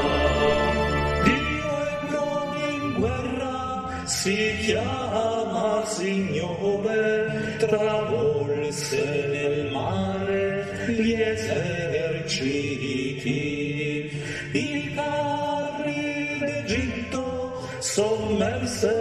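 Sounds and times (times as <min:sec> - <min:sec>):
men singing a hymn: 0:00.0 - 0:19.0.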